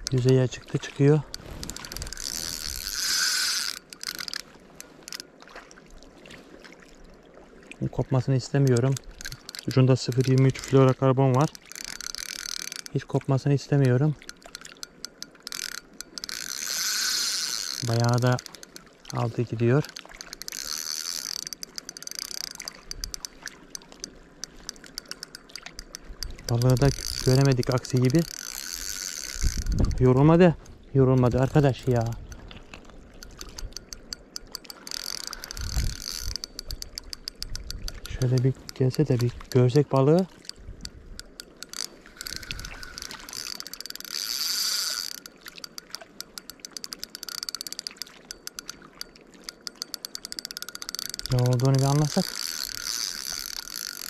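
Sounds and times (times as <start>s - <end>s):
fishing reel drag clicking: 0.0s - 5.9s, 7.9s - 54.0s.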